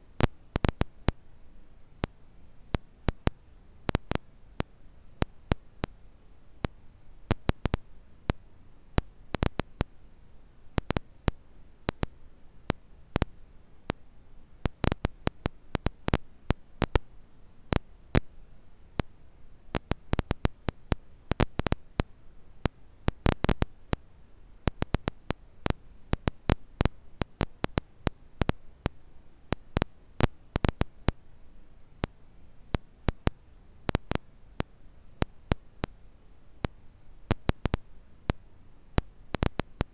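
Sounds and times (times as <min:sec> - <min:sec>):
low hiss of burning: 0:00.0 - 0:39.9.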